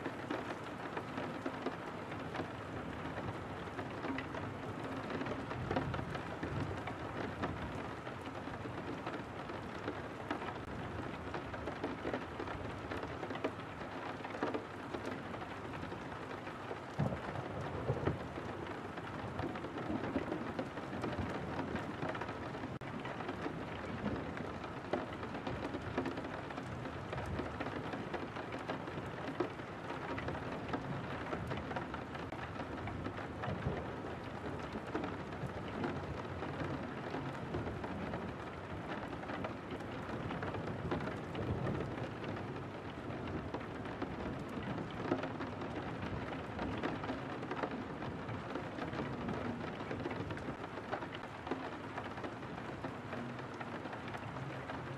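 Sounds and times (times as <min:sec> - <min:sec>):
rain falling on a window: 0:00.0 - 0:54.9.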